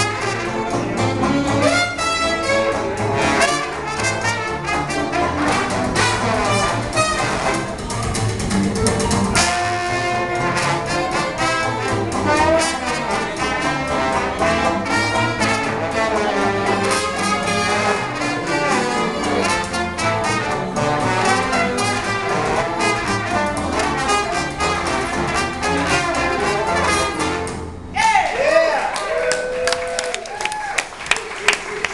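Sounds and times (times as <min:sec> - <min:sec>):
trumpet: 0:00.0 - 0:08.1, 0:09.3 - 0:27.9
trombone: 0:00.0 - 0:27.8
upright bass: 0:00.0 - 0:28.5.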